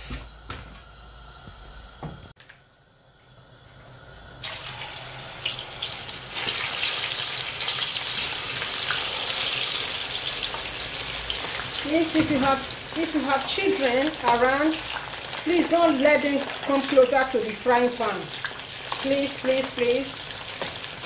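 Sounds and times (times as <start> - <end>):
slices sizzling in hot oil: 3.5 - 21.0.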